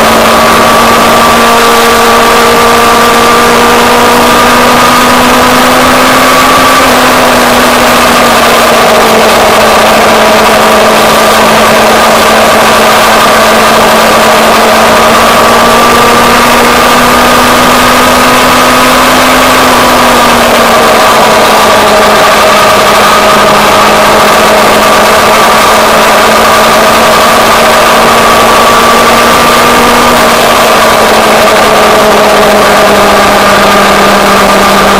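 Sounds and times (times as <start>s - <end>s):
motorcycle engine cruising: 0.0s - 34.9s
wind and road noise: 0.0s - 34.9s.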